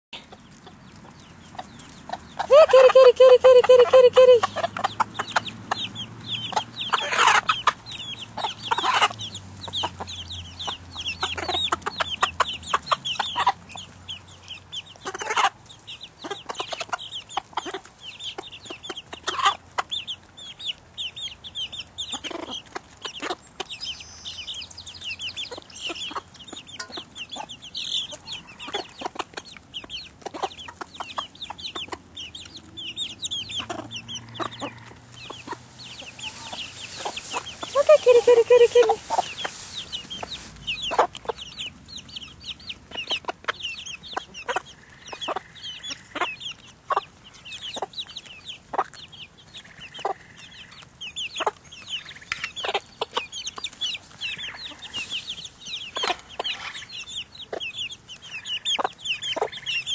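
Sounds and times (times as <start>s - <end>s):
chicks peeping: 0.1s - 59.9s
hens clucking: 0.2s - 59.9s.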